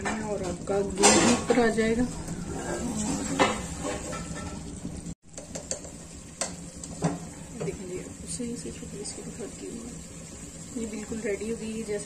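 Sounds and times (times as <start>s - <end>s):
simmering cream sizzling: 0.0s - 12.0s.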